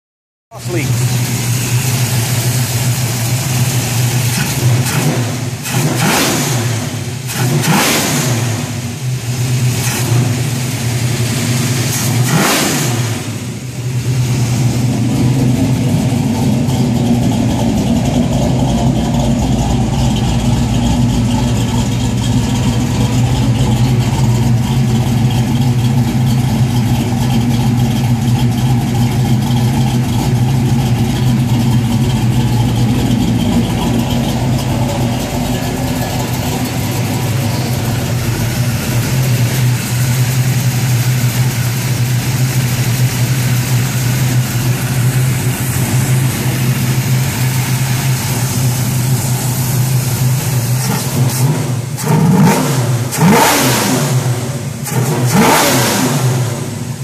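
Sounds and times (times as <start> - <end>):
car engine revving and idling: 0.5 - 57.0.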